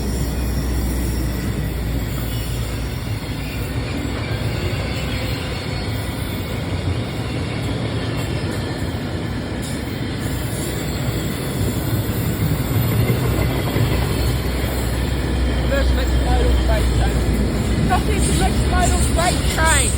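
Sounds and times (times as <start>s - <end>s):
freight train rumbling past: 0.0s - 19.9s.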